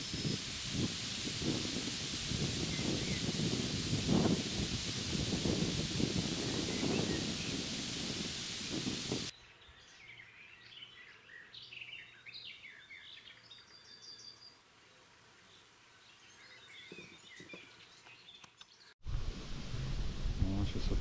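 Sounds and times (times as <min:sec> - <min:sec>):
songbirds chirping and warbling: 0:00.0 - 0:19.0.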